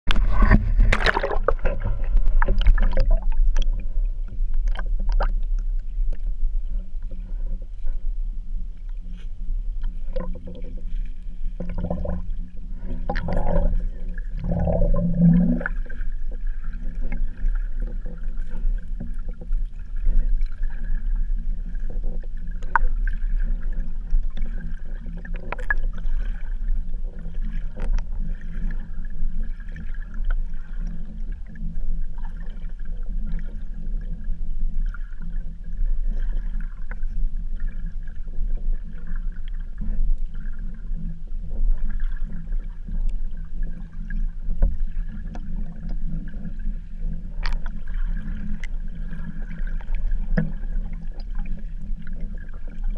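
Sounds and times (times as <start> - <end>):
low underwater rumble: 0.0 - 52.9
faint steady hum: 0.1 - 52.9.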